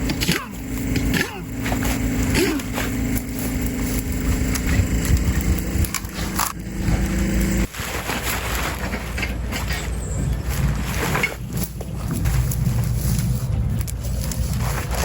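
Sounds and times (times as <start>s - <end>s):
machine engine running: 0.0s - 15.0s.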